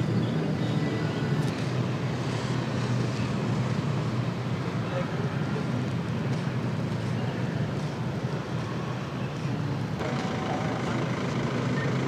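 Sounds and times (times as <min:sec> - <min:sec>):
outdoor background noise: 0:00.0 - 0:12.0
vehicle engine rumbling: 0:00.0 - 0:12.0.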